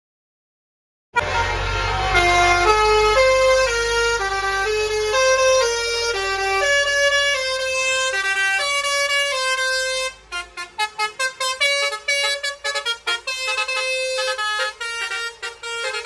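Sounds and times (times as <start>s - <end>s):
multi-trumpet air horn playing a tune: 1.2s - 16.0s.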